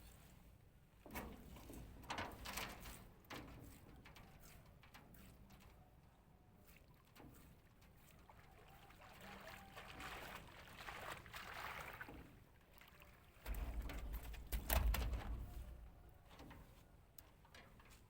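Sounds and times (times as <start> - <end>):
water lapping around boat: 0.0 - 18.0.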